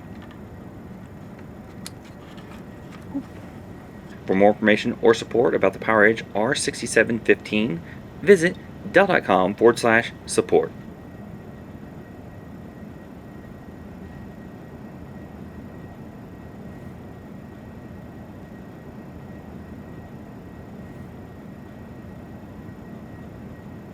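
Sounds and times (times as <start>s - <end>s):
background hum and hiss: 0.0s - 23.9s.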